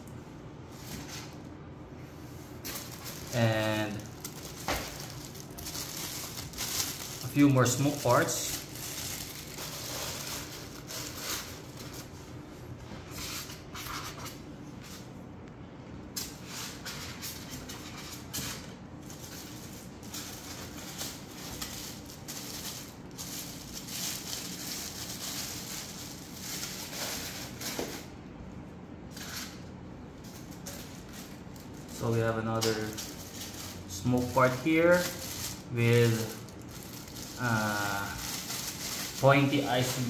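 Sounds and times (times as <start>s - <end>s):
plastic bags rustling: 2.4s - 15.0s, 16.2s - 28.2s, 29.0s - 40.0s.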